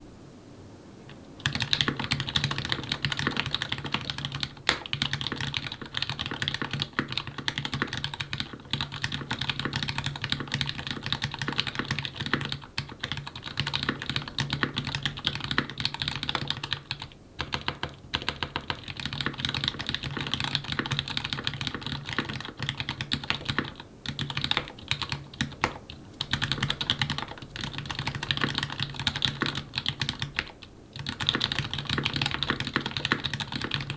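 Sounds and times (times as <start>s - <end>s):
typing on mechanical keyboard: 1.4s - 33.9s.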